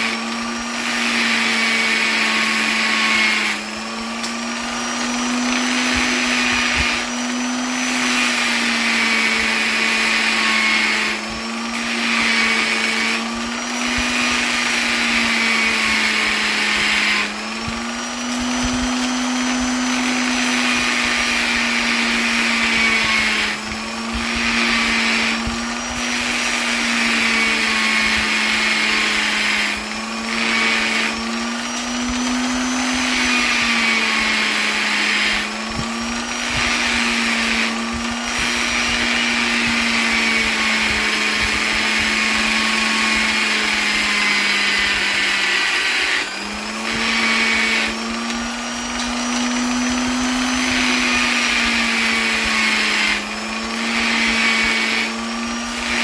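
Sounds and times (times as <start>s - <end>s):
electric polisher motor humming: 0.0s - 56.0s.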